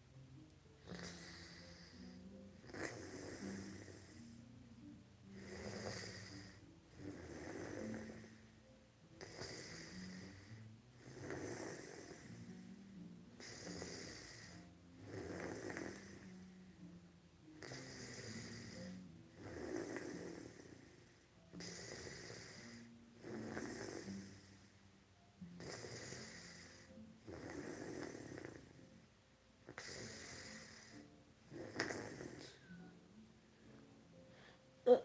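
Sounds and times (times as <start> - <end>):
person snoring: 0.8 - 4.5, 5.3 - 16.6, 17.6 - 24.8, 25.6 - 29.0, 29.7 - 32.8.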